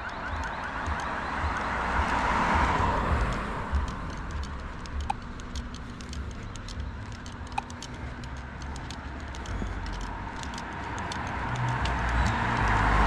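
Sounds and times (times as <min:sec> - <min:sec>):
light irregular ticking: 0:00.0 - 0:13.0
low street rumble: 0:00.0 - 0:13.0.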